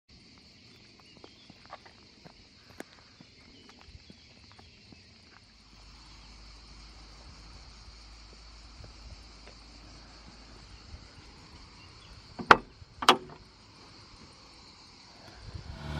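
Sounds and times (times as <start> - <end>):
insects chirping: 0.1 - 15.9.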